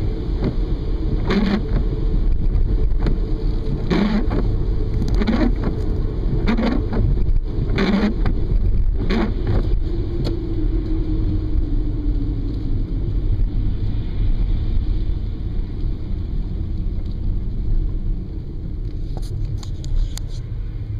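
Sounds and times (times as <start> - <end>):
car road and engine rumble: 0.0 - 20.9.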